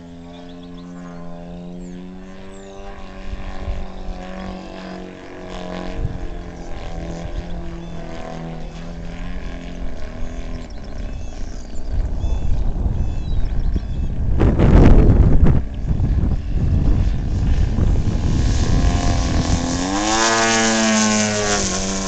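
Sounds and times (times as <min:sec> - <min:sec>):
model plane engine drone: 0:00.0 - 0:22.0.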